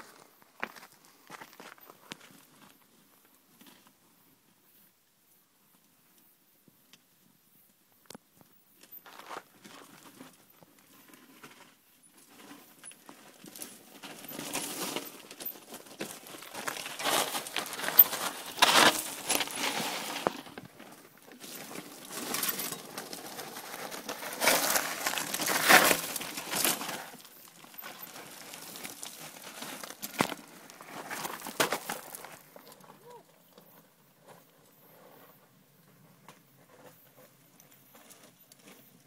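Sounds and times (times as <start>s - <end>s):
gravel crunching and sliding: 0.0s - 4.0s, 8.8s - 39.0s.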